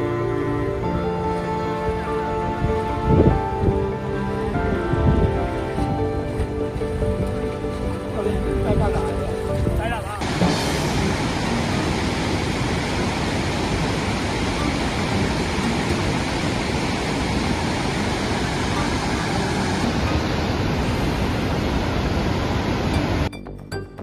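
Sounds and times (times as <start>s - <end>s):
torrential rain and floodwater rushing: 0.0s - 23.3s.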